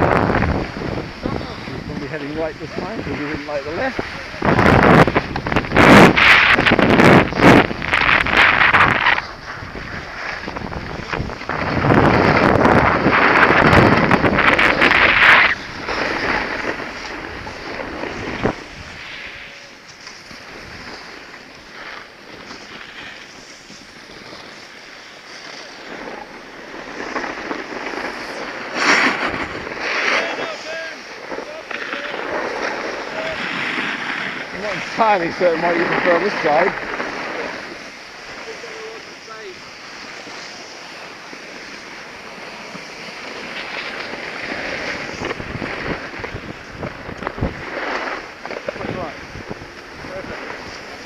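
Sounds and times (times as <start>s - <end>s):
skis scraping over snow: 0.0s - 51.0s
wind buffeting microphone: 0.0s - 51.0s.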